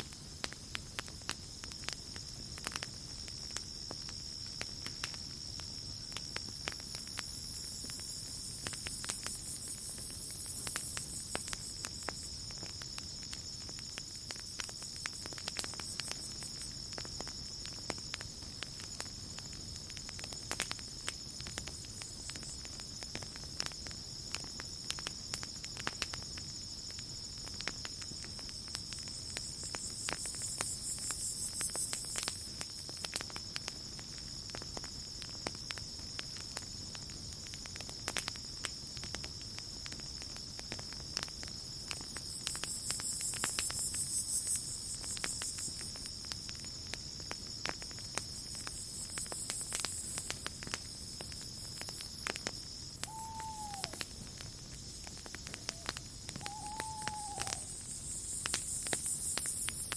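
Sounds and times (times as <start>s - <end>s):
campfire crackling and popping: 0.0s - 59.9s
crickets and night insects chirring: 0.0s - 59.9s.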